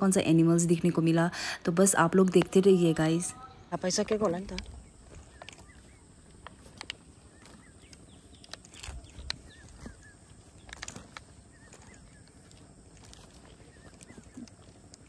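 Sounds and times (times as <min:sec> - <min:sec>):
small birds chirping: 0:01.9 - 0:15.0.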